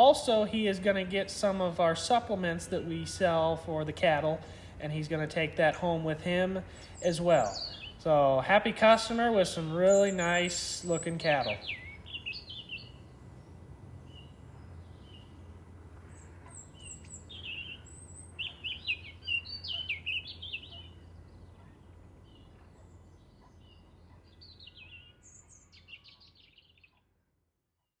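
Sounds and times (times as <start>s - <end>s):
steady low hum: 0.0s - 26.3s
birds singing and chirping: 0.0s - 27.0s.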